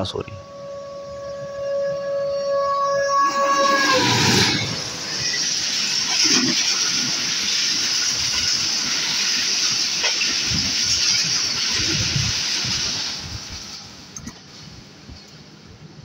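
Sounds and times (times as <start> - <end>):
express train passing: 0.0 - 16.0.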